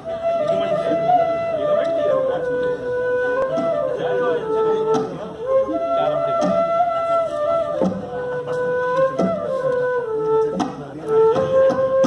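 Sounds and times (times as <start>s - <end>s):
dholak drum strokes: 0.0s - 12.0s
flute melody: 0.0s - 12.0s.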